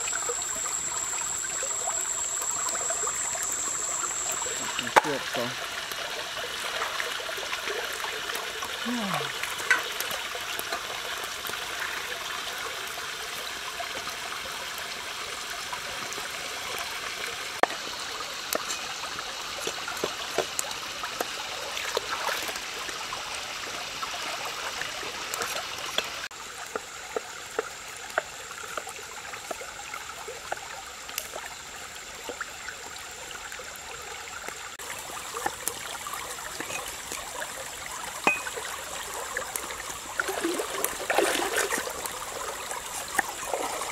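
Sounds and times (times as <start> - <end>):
shallow stream running: 0.0 - 43.9.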